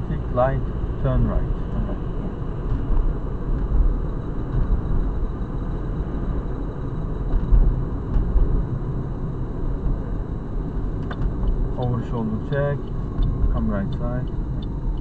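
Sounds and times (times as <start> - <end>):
car driving heard from cabin: 0.0 - 15.0.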